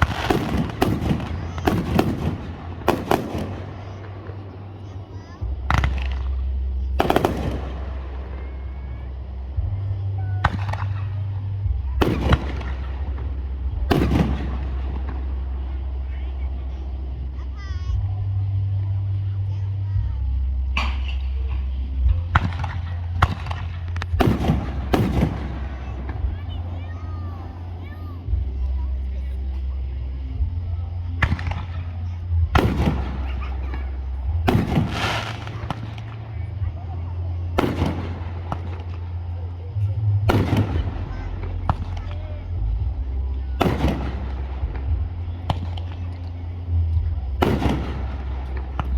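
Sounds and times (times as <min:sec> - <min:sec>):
fireworks crackle: 0:00.0 - 0:18.0, 0:19.0 - 0:48.9
fireworks bangs: 0:00.0 - 0:18.7, 0:20.3 - 0:48.9
steady low rumble: 0:00.0 - 0:48.9.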